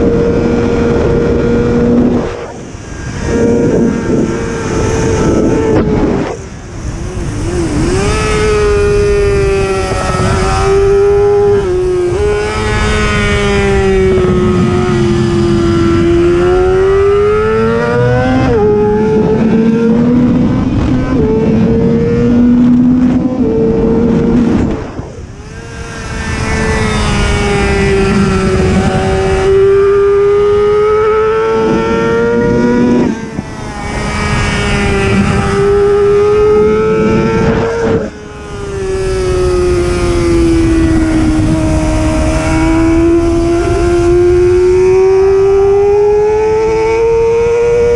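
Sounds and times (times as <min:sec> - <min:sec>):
motorcycle engine at high revs: 0:00.0 - 0:47.9.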